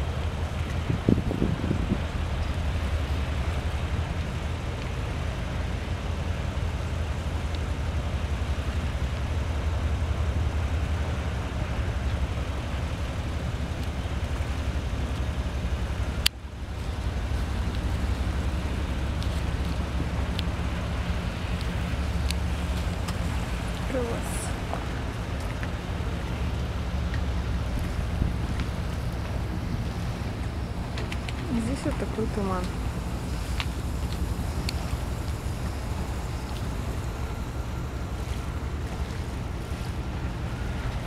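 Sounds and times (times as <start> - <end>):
ship engines droning: 0.0 - 41.0.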